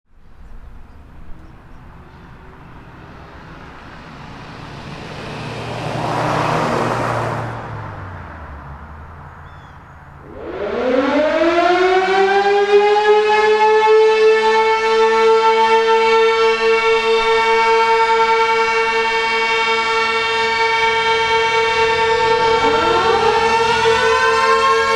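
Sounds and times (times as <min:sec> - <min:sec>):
vehicle passing: 0:00.9 - 0:13.1, 0:16.6 - 0:24.9
outdoor warning siren: 0:01.2 - 0:09.2, 0:10.2 - 0:24.9.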